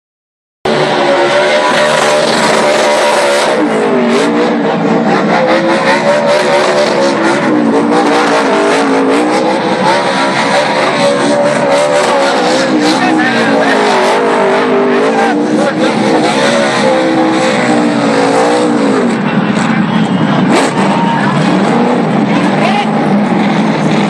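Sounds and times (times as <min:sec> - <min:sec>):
race truck engines at speed: 0:00.7 - 0:24.0.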